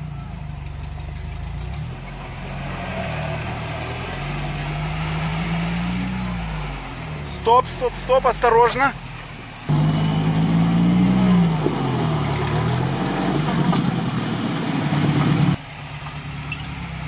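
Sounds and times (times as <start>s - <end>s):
off-road vehicle engine under load: 0.0s - 17.0s.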